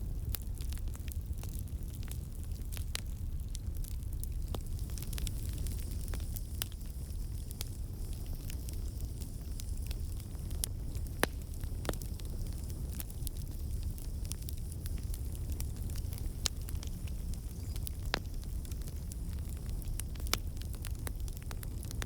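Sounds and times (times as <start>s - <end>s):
campfire crackling and popping: 0.0s - 22.0s
low fire rumble: 0.0s - 22.0s.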